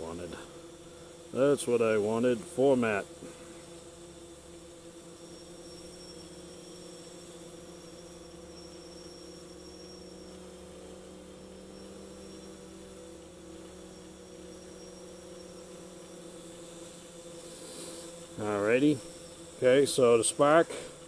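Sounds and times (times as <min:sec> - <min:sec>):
drone propeller buzz: 0:00.0 - 0:21.0.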